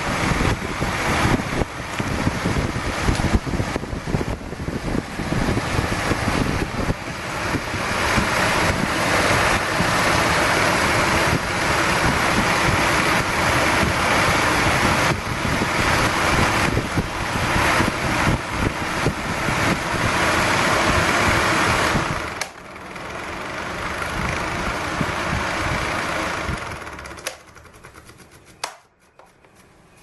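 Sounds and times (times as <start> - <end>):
range hood fan whirring: 0.0 - 30.0.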